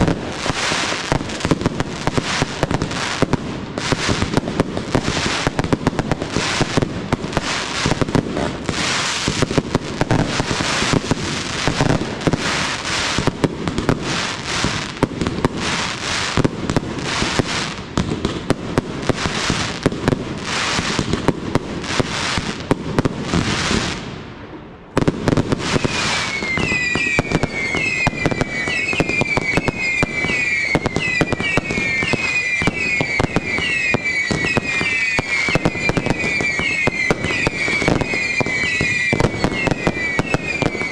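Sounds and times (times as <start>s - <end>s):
fireworks whistling: 0.0s - 24.2s, 25.0s - 40.9s
fireworks crackling and banging: 0.0s - 40.9s.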